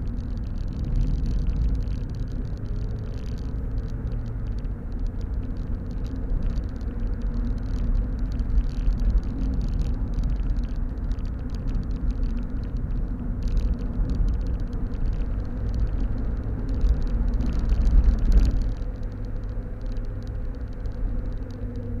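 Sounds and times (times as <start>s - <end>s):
road rumble inside car: 0.0s - 22.0s.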